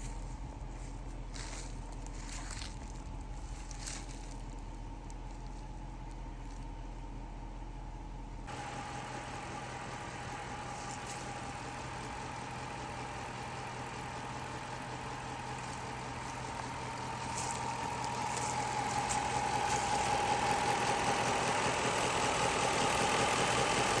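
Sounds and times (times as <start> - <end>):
car engine running: 0.0 - 24.0
constant whine: 0.0 - 24.0.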